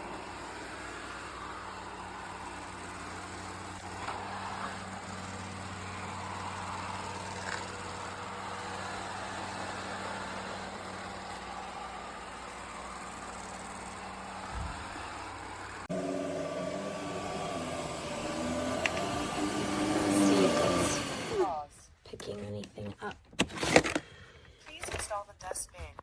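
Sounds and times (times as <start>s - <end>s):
robot vacuum humming: 0.0s - 21.6s.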